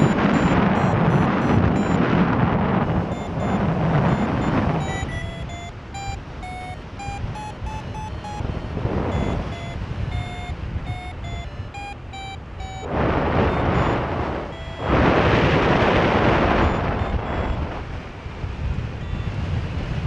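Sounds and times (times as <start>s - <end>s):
variometer beeping: 0.0s - 18.0s, 18.8s - 19.6s
low wind rumble: 0.0s - 20.0s
wind gusts on microphone: 0.0s - 20.0s.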